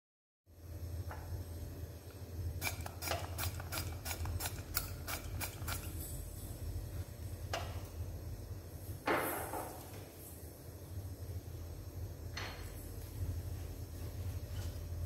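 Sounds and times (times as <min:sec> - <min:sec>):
low steady hum: 0:00.5 - 0:15.0.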